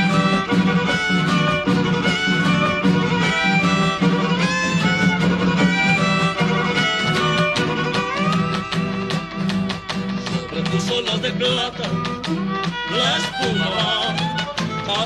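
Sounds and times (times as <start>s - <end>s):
rhythmic string accompaniment: 0.0s - 15.0s
violin melody with slides: 0.0s - 15.0s.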